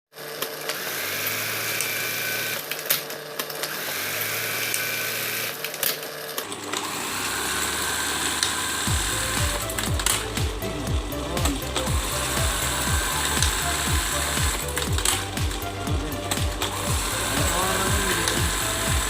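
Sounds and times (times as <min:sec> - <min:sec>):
sharp mechanical clicks: 0:00.2 - 0:07.4, 0:08.2 - 0:19.0
sewing machine running: 0:00.2 - 0:19.0.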